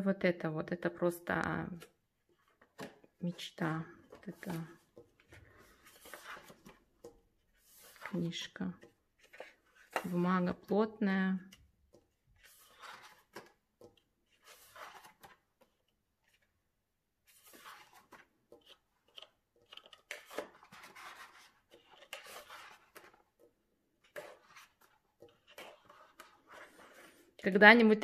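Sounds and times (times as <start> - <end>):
paper pages turning: 1.7 - 10.7, 11.4 - 16.6, 17.2 - 27.5.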